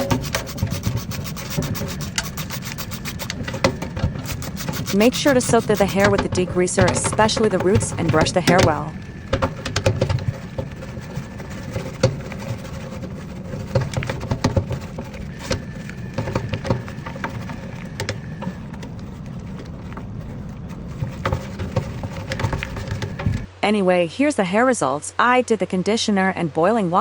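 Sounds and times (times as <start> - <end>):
brush strokes through sticky hair: 0.0 - 23.5.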